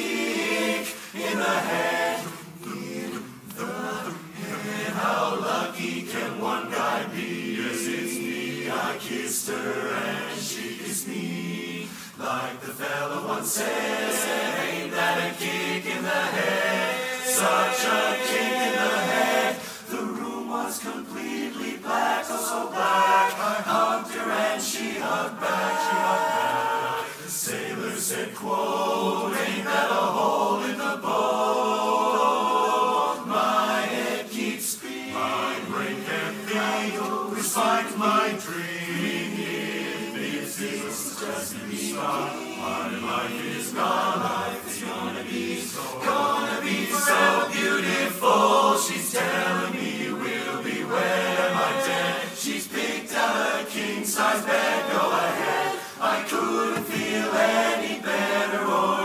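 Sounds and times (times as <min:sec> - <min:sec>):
men's chorus singing a cappella: 0:00.0 - 0:59.0.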